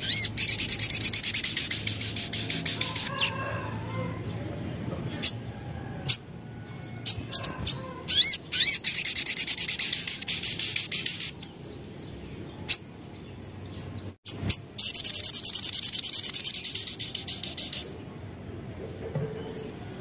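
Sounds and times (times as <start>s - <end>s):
sunbird singing: 0.0s - 20.0s.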